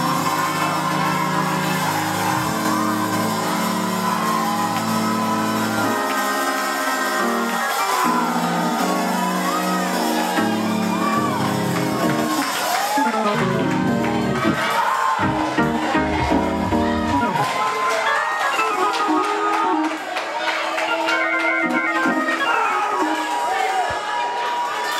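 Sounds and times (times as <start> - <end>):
voices shouting and whooping: 0.0 - 24.9.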